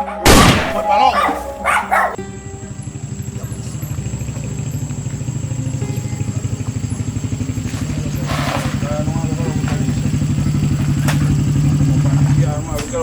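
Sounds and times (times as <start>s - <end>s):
small engine running: 1.2s - 13.0s.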